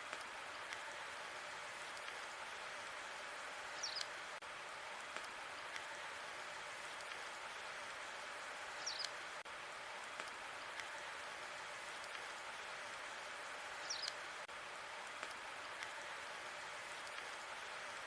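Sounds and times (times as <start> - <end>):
log fire crackling: 0.0 - 18.0.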